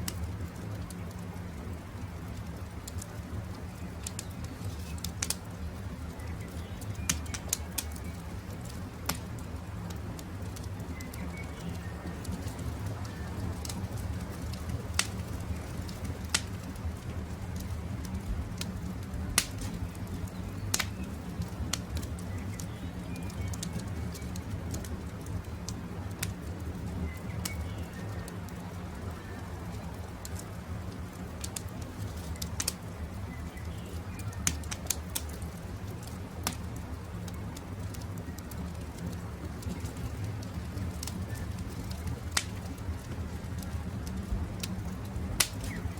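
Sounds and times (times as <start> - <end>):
campfire crackling and popping: 0.0 - 45.9
faint birds chirping: 0.0 - 45.9
low fire rumble: 0.0 - 45.9.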